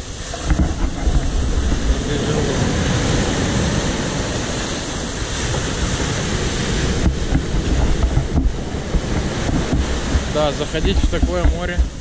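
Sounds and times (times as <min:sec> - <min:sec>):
waves breaking: 0:00.0 - 0:12.0
wind buffeting microphone: 0:00.0 - 0:12.0.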